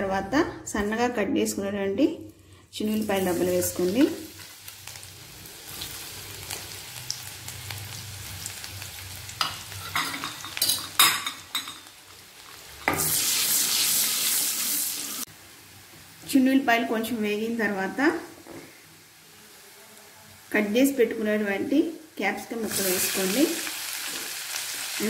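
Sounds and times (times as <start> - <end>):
garlic sizzling in oil: 2.7 - 19.7, 20.4 - 25.0.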